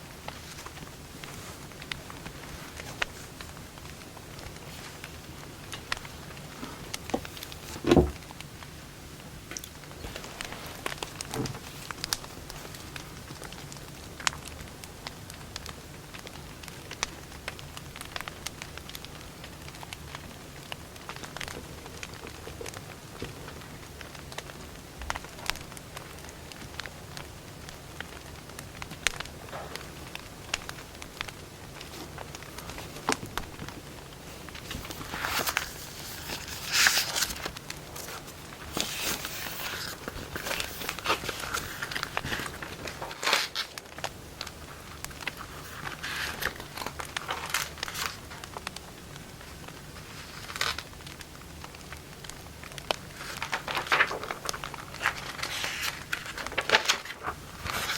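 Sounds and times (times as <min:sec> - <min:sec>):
low background noise: 0:00.0 - 0:57.9
wood fire crackling: 0:00.0 - 0:57.9.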